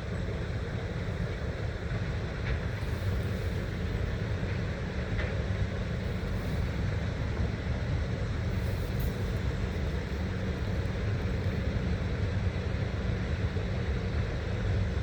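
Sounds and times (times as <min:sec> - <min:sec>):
machinery low rumble: 0:00.0 - 0:15.0.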